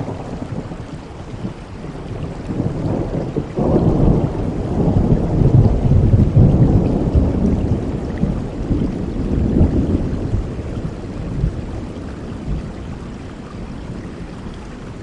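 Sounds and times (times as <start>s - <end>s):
heavy rain falling: 0.0s - 15.0s
low rolling thunder: 0.0s - 15.0s.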